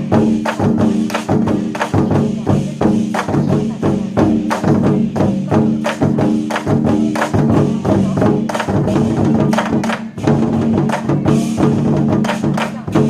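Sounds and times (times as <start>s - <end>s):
war drums beaten fast: 0.0s - 13.0s.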